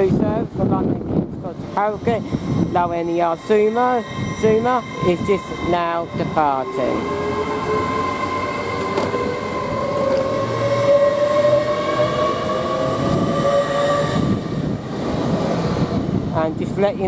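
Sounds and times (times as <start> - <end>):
train rumble: 0.0 - 17.0
train motors whining: 1.6 - 16.1.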